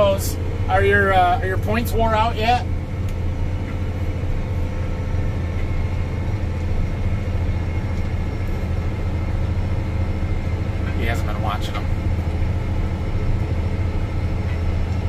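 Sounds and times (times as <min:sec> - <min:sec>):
tractor engine droning: 0:00.0 - 0:15.0.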